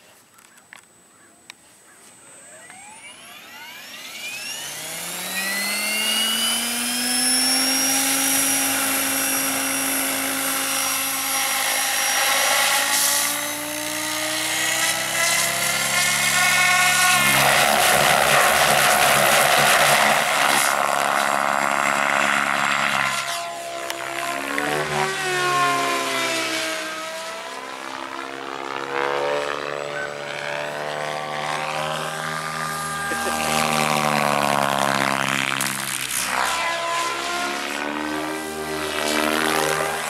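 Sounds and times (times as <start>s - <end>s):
electric motor whine: 2.2s - 40.0s
rushing rotor noise: 2.4s - 40.0s.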